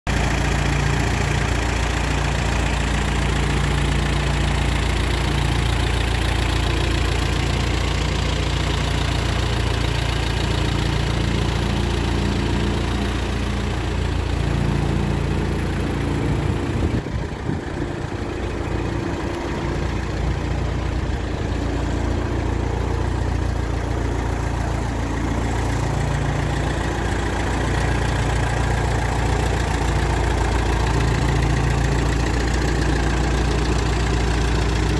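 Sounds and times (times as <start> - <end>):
tractor engine idling: 0.1 - 34.9.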